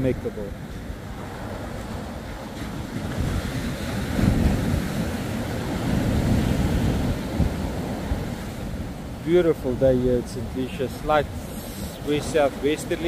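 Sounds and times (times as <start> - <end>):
wind buffeting microphone: 0.0 - 13.0
surf breaking on beach: 0.5 - 13.0.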